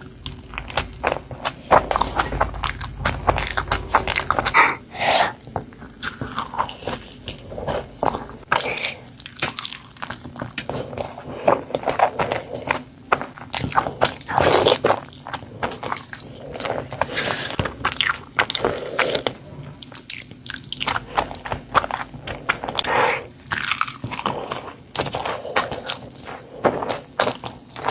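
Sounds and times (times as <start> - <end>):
crunchy chewing: 0.0 - 27.9.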